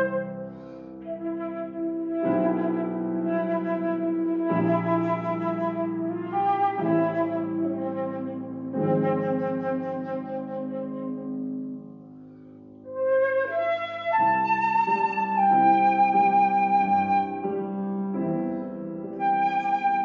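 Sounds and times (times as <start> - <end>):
flute playing: 0.0 - 11.9, 12.8 - 20.0
piano chords: 0.0 - 20.0.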